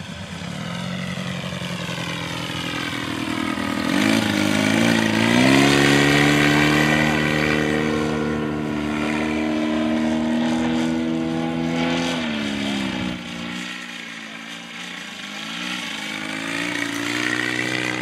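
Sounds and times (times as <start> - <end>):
model airplane engine: 0.0 - 18.0.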